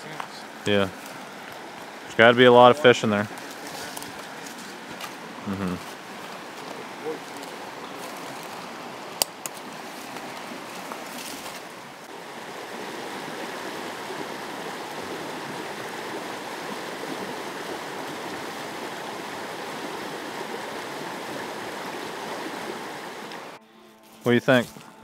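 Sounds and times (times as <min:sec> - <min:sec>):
creek water rushing: 0:00.0 - 0:25.0.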